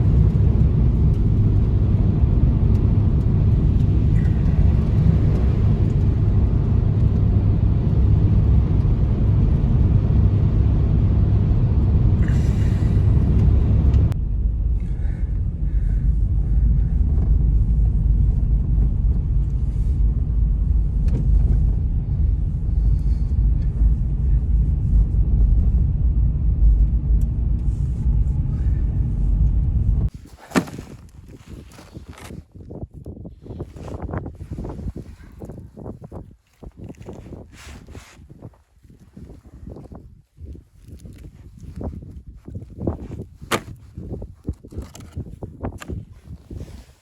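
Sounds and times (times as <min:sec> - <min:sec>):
blizzard wind buffeting microphone: 0:00.0 - 0:47.0.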